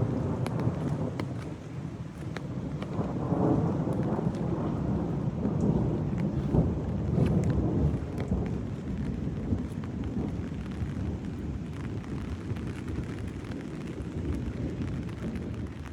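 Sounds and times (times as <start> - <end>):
distant thunder rumbling: 0.0 - 15.8
drops ticking on canopy: 0.0 - 15.9
heavy rain on an umbrella: 0.0 - 15.9.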